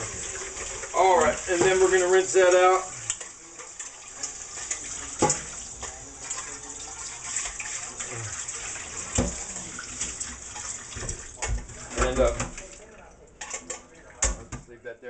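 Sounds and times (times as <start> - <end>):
faucet running into metal bowl: 0.0 - 14.6.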